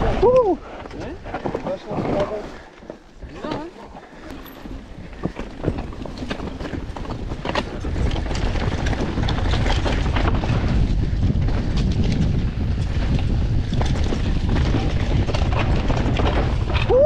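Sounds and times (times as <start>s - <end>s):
tyres rumbling on trail: 0.0s - 17.0s
wind buffeting microphone: 0.0s - 17.0s.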